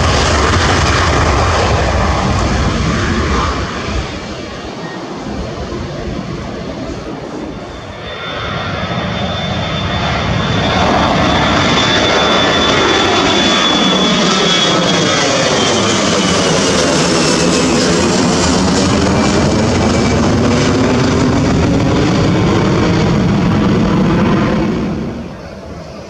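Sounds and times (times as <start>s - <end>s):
high engine whine: 0.0s - 26.0s
jet airliner taking off: 0.0s - 26.0s.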